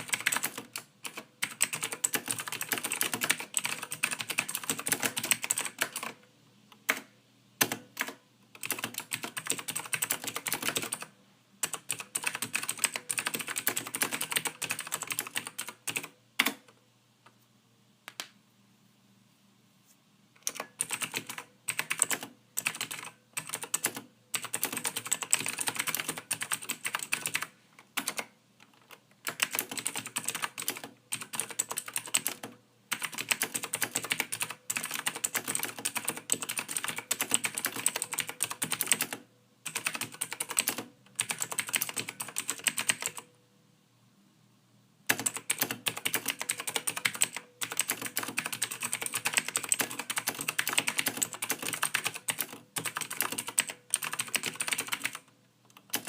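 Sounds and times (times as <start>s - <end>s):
computer keyboard typing: 0.0s - 6.2s, 6.8s - 16.8s, 20.4s - 43.3s, 45.1s - 56.0s.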